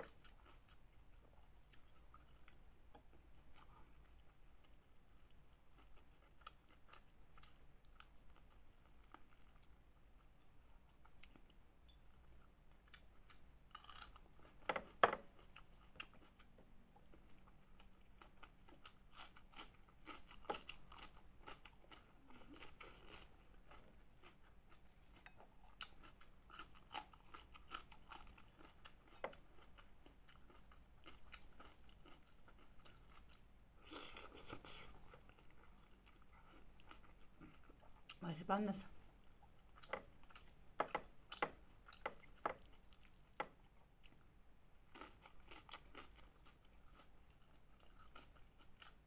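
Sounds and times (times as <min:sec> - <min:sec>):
chewing and crunching food: 0:00.0 - 0:11.6, 0:12.2 - 0:49.0.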